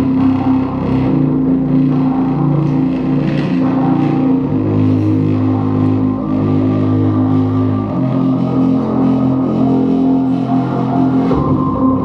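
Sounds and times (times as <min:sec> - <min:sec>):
bass-heavy music through subwoofer: 0:00.0 - 0:12.0.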